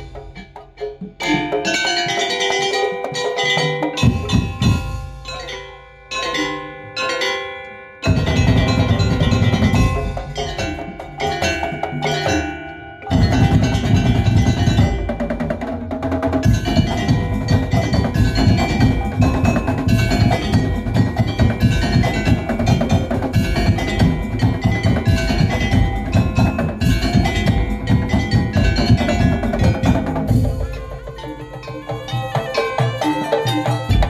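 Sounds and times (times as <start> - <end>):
fast dense drumming: 0.0 - 5.5, 8.0 - 34.0
ringing metal tones: 0.0 - 34.0.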